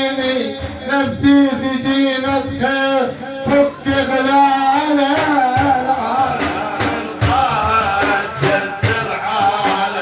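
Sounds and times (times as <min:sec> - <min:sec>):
drum beats: 0:00.0 - 0:10.0
man singing a devotional chant: 0:00.0 - 0:10.0.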